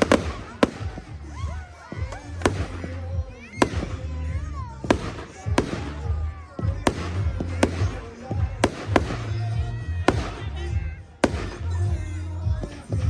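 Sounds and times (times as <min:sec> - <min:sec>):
fireworks bangs: 0:00.0 - 0:12.8.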